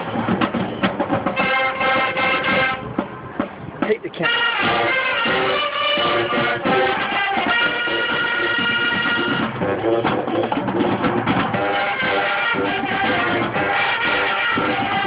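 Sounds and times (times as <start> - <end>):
brass horns: 0.0 - 3.0, 4.0 - 15.0
marching drums: 0.0 - 15.0.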